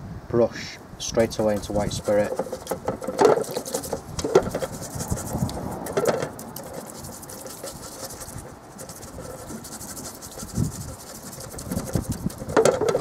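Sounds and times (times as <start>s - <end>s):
paintbrush scrubbing in metal bucket: 1.2s - 13.0s.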